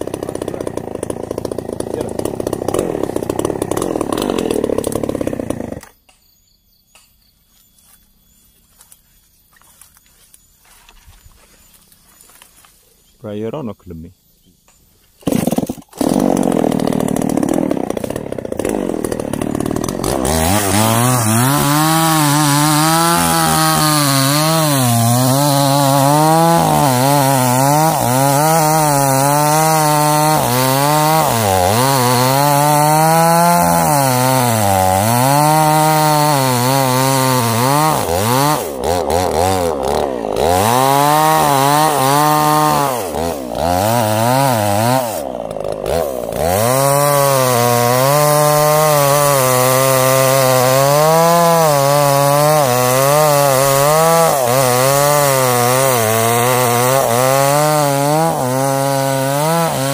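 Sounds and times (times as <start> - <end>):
chainsaw cutting wood: 0.0 - 6.1, 15.2 - 59.9.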